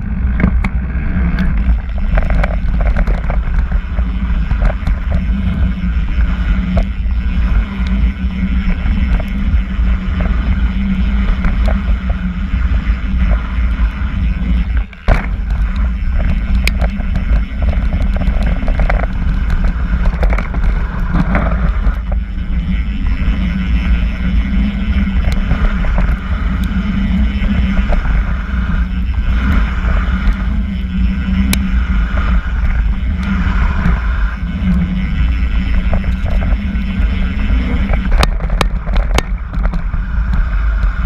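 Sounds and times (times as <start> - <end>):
bike clicks and rattles: 0.0 - 41.0
wind buffeting camera: 0.0 - 41.0.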